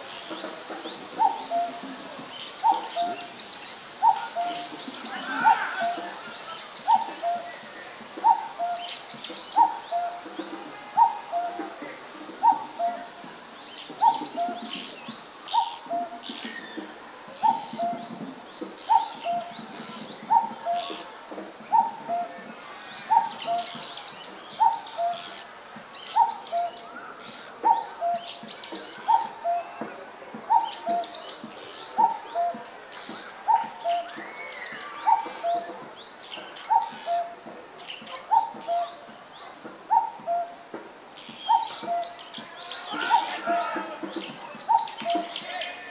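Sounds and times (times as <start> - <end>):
small birds chirping: 0.0 - 45.9
cuckoo calling: 0.1 - 13.2, 13.8 - 18.2, 18.8 - 29.9, 30.5 - 37.4, 38.0 - 45.9.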